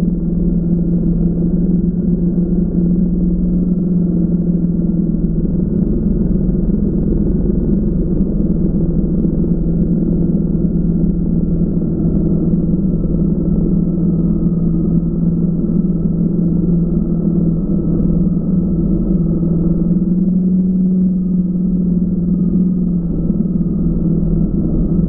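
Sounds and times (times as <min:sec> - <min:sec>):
drone motors and propellers humming: 0:00.0 - 0:25.0.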